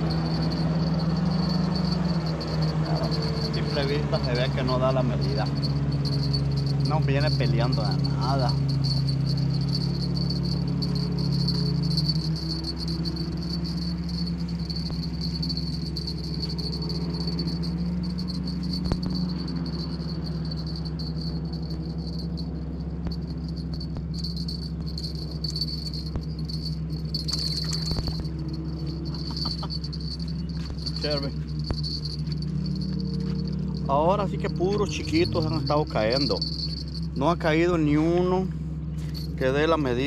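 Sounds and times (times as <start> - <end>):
insects trilling: 0.0 - 37.5
low steady hum: 0.0 - 40.0.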